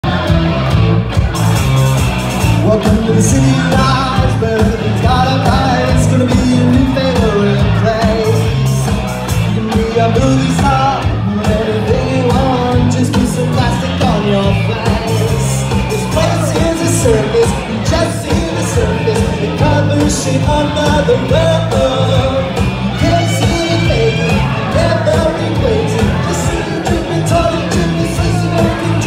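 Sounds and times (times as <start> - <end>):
bass guitar: 0.0 - 29.0
drums: 0.0 - 29.0
electric guitar: 0.0 - 29.0
person singing: 0.0 - 29.0.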